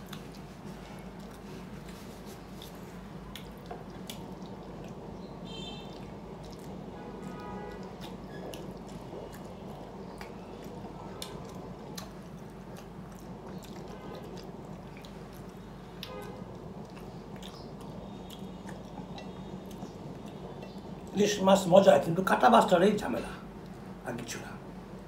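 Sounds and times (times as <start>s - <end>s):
person chewing food: 0.0s - 21.1s
faint steady hum: 0.0s - 25.0s.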